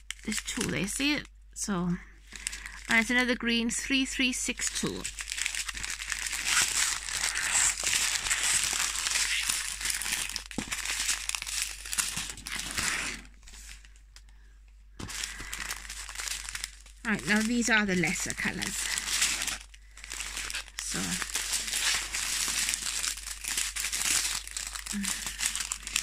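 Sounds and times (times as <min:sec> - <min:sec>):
plastic bags crinkling: 0:00.0 - 0:01.3, 0:02.2 - 0:03.5, 0:04.5 - 0:26.0.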